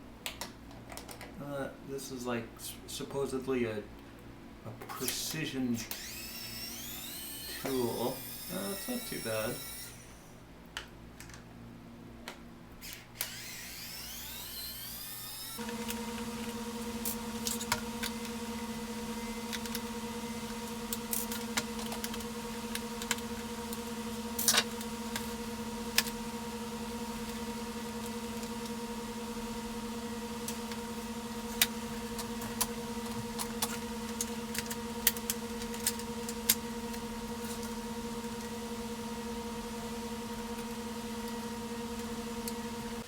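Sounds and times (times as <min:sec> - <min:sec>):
steady electrical hum: 0:00.0 - 0:43.0.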